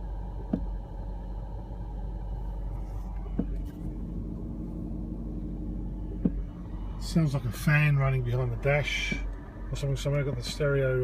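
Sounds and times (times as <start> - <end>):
steady low fan hum: 0.0 - 11.0.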